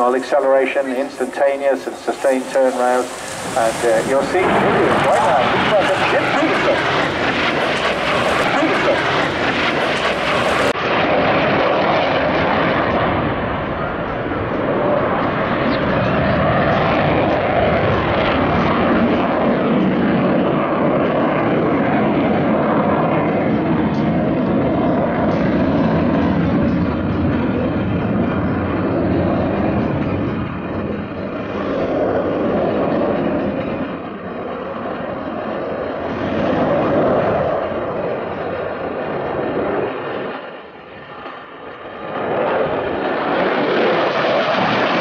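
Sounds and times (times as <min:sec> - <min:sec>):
loud jet noise: 0:00.0 - 0:45.0.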